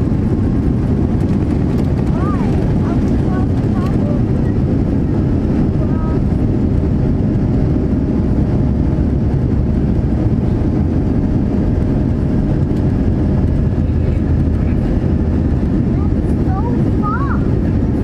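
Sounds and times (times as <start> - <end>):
jet engines deep rumble: 0.0 - 18.0.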